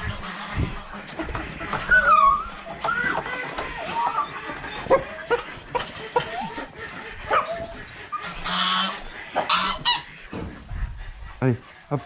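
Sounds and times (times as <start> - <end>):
dogs yelping: 0.0 - 12.0.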